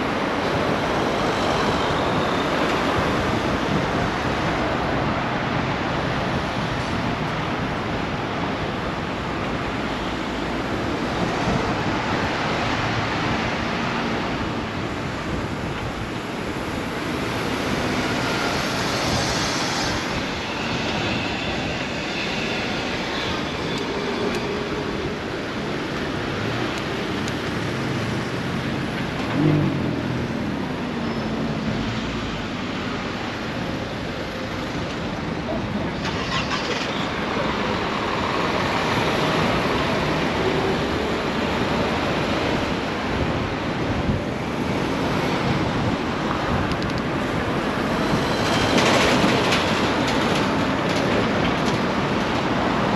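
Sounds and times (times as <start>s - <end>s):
road and wind noise: 0.0s - 52.9s.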